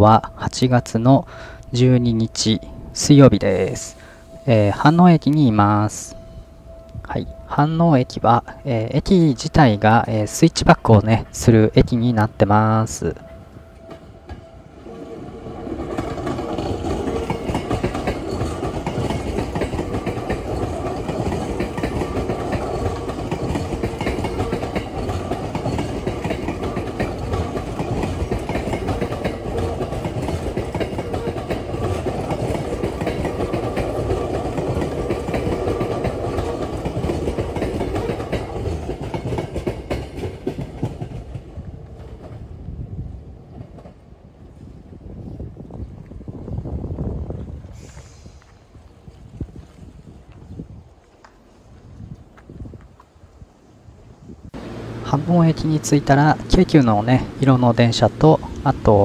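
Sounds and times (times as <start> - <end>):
electric train running past: 0.0 - 49.0, 50.4 - 59.0.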